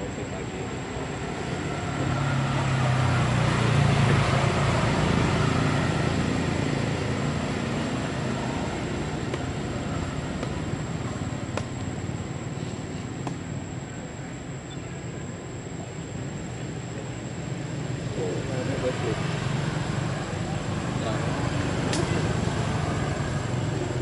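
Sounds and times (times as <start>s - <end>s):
vehicle passing by: 0.0s - 13.6s, 16.4s - 24.0s.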